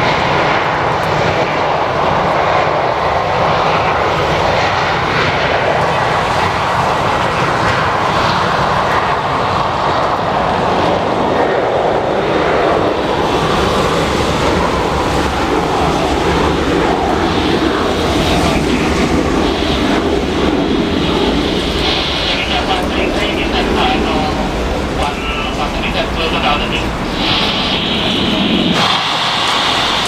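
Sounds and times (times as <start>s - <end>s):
jet airliner engines roaring: 0.0s - 30.0s.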